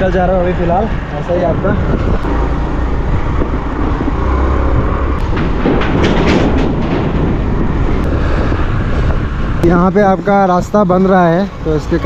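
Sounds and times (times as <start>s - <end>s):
motor scooter road rumble: 0.0s - 12.0s
wheels clanking over bridge joints: 0.0s - 12.0s.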